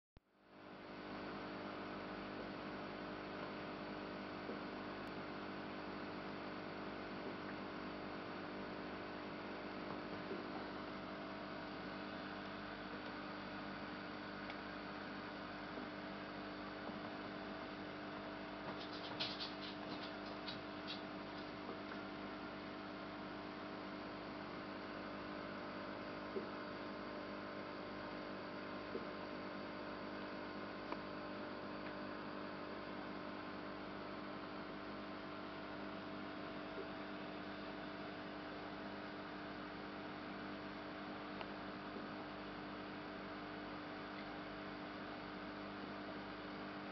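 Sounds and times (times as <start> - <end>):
electrical hum of fixed tones: 0.3 - 46.9.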